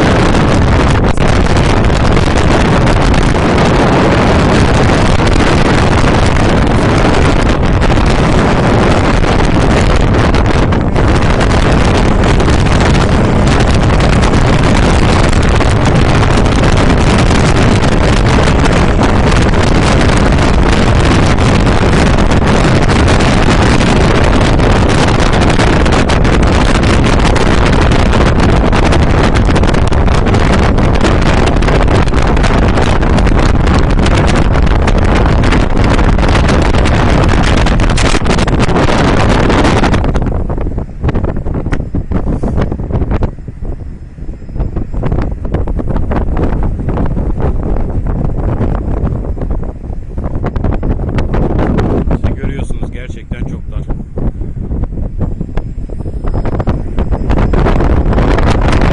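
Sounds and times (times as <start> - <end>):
ship engine: 0.0 - 58.9
wind on microphone: 0.0 - 58.9.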